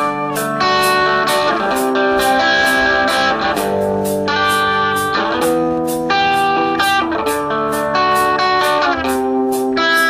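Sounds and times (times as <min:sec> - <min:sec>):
instrumental rock music: 0:00.0 - 0:10.0.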